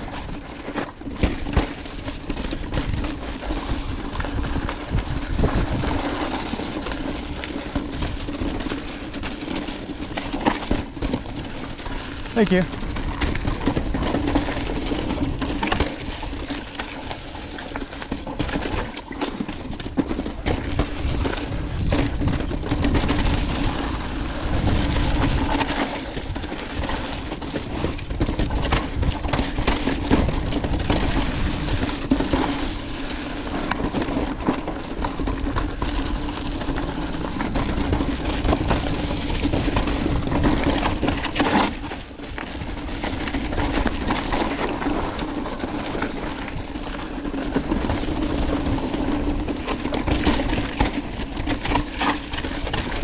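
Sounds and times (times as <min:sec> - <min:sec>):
bike rattling and knocking: 0:00.0 - 0:53.0
tyres crunching over dirt and stones: 0:00.0 - 0:53.0.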